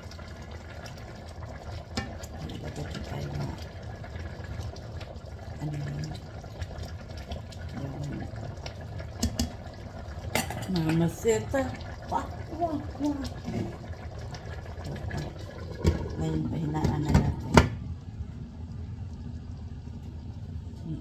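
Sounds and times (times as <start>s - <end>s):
broth boiling: 0.0s - 21.0s.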